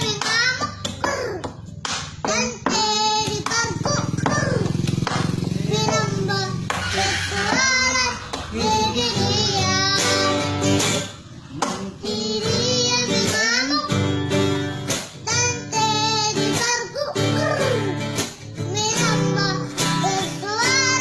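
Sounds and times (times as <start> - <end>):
child singing: 0.0 - 1.6, 2.2 - 11.0, 11.6 - 21.0
guitar accompaniment: 0.0 - 21.0.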